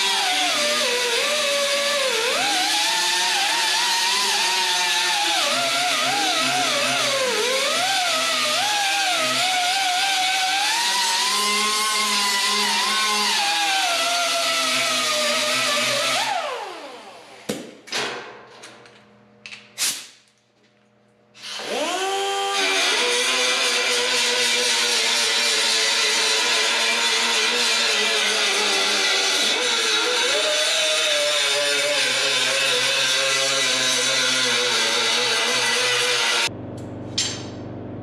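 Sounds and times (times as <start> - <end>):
electric grinder grinding metal: 0.0 - 17.3, 21.4 - 36.5.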